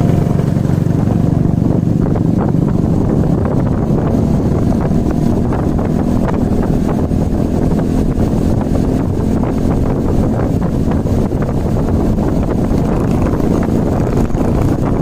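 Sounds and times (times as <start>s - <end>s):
motorcycle engine drone: 0.0s - 15.0s
wind buffeting microphone: 0.0s - 15.0s.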